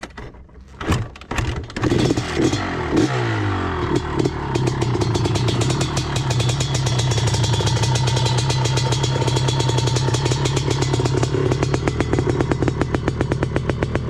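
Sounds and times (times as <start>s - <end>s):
quad engine starting and idling: 0.9s - 14.0s.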